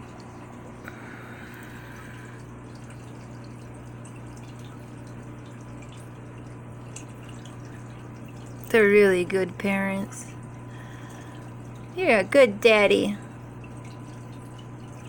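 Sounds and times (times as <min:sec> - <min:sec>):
aquarium filter hum: 0:00.0 - 0:15.0
water trickling and dripping: 0:00.0 - 0:15.0.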